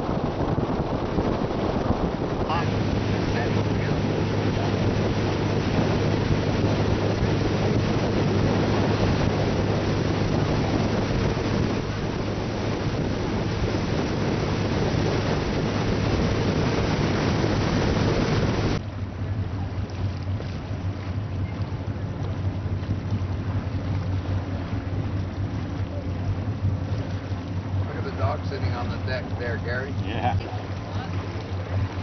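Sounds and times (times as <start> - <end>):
motorboat engine humming: 0.0 - 32.0
water rushing past hull: 0.0 - 32.0
wind buffeting microphone: 0.0 - 32.0.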